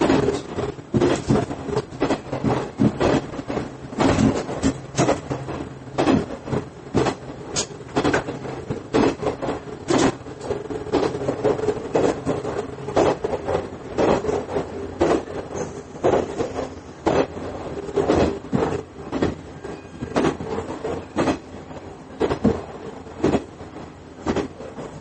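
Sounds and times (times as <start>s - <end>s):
wheels clacking over rail joints: 0.0s - 25.0s.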